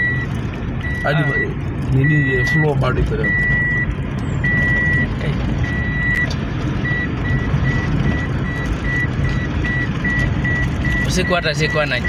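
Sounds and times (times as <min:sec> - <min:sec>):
car warning beeper: 0:00.0 - 0:12.0
engine and tyre rumble: 0:00.0 - 0:12.0.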